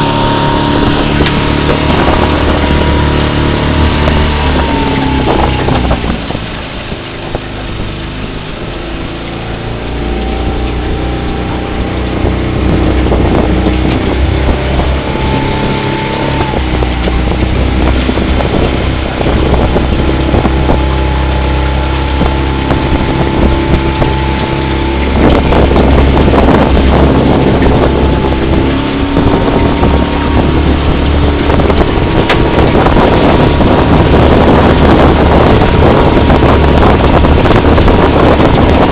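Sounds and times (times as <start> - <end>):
outboard motor running: 0.0 - 38.9
wind buffeting microphone: 0.0 - 38.9.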